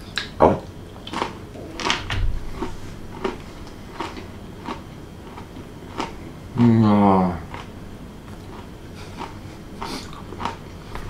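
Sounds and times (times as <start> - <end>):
crackers being crunched and chewed: 0.2 - 6.2, 7.4 - 11.0.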